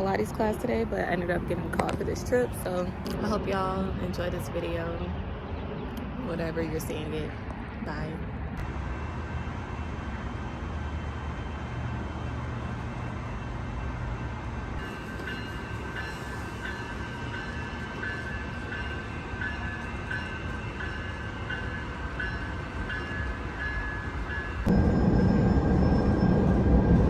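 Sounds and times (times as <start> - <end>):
train rumble: 0.0 - 27.0.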